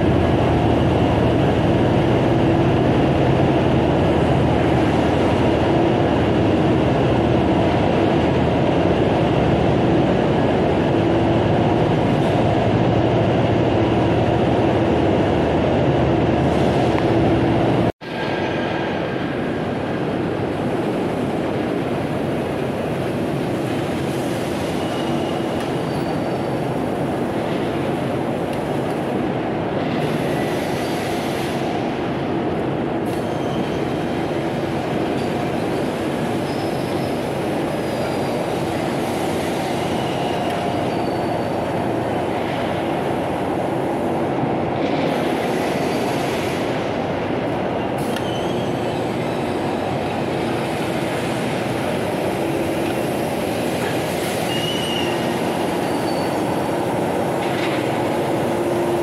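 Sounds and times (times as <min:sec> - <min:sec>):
production line machinery running: 0:00.0 - 0:59.0.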